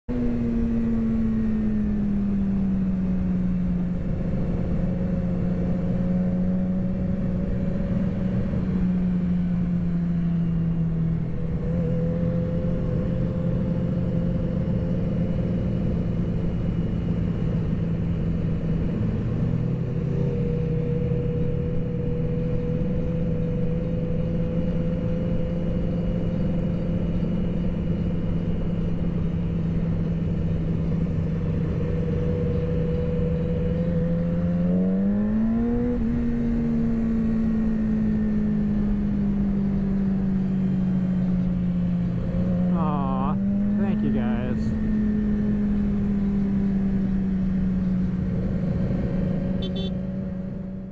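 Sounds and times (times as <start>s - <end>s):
wind and road noise: 0.1s - 50.9s.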